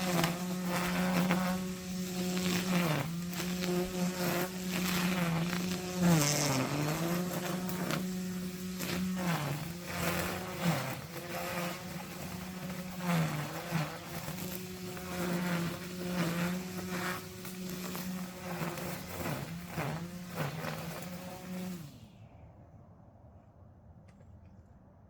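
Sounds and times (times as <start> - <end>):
petrol brushcutter buzzing: 0.0 - 22.1
swishing of cut grass: 0.0 - 22.1.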